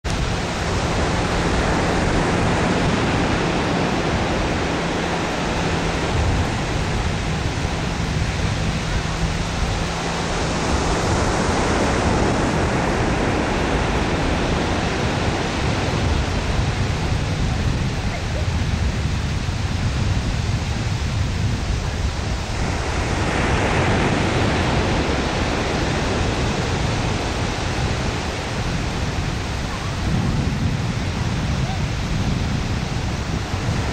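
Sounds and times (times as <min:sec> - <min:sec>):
surf on a sandy beach: 0:00.0 - 0:33.9
wind buffeting microphone: 0:00.0 - 0:33.9.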